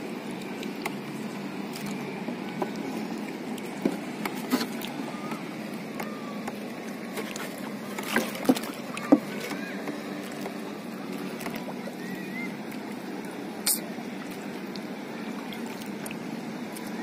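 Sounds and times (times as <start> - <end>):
choppy water: 0.0 - 17.0
wind: 0.0 - 17.0.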